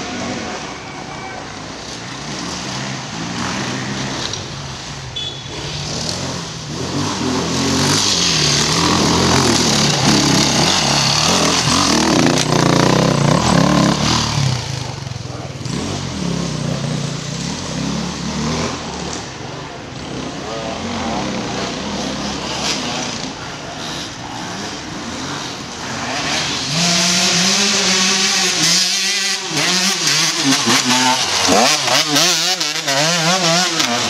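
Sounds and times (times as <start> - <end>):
dirt bike engine revving: 1.6 - 34.0.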